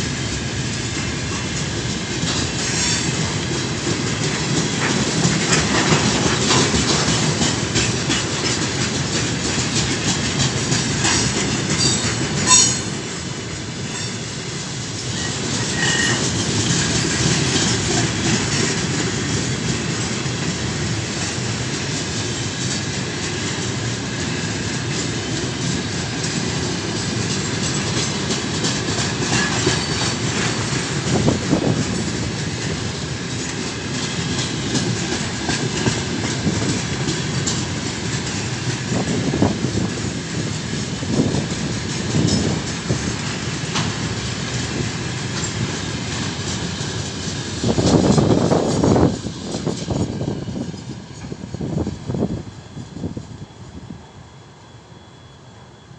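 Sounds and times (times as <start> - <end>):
train wheels clattering over rail joints: 0.0 - 53.2.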